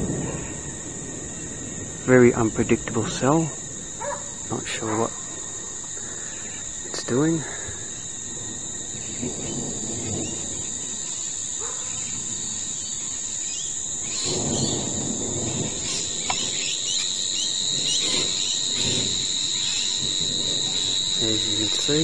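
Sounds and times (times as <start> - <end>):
insects chirring: 0.0 - 22.0
birds chirping: 1.4 - 22.0.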